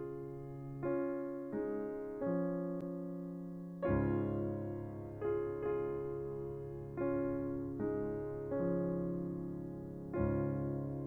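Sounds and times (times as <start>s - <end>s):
slow soft piano chords: 0.0s - 11.0s.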